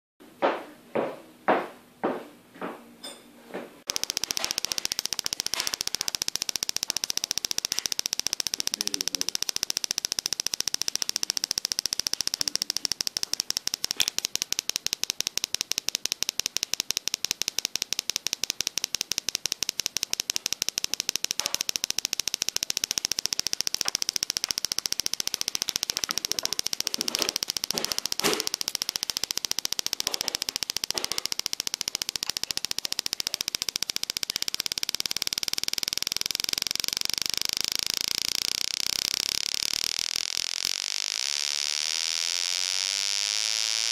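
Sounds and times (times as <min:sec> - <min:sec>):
separate speaker clicks: 0:03.9 - 0:40.9
loudspeaker buzz of rapid clicks: 0:03.9 - 0:43.9.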